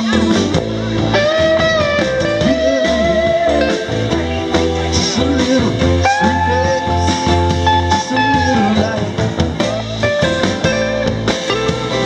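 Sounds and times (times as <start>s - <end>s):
bass and drums: 0.0s - 12.0s
electric guitar lead: 0.0s - 12.0s.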